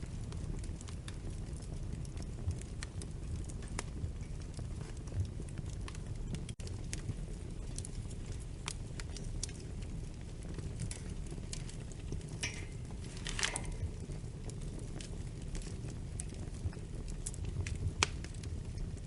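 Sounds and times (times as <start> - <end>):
fire hissing: 0.0 - 19.0
low rumble of flames: 0.0 - 19.0
wood fire crackling: 0.0 - 19.0.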